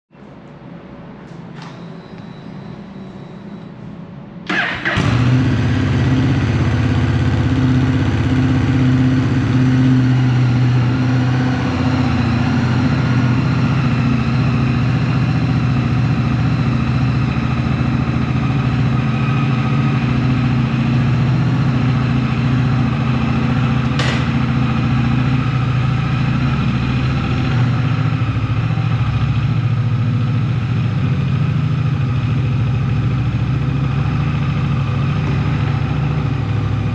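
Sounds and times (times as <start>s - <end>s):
motorcycle engine idling: 4.5s - 36.9s.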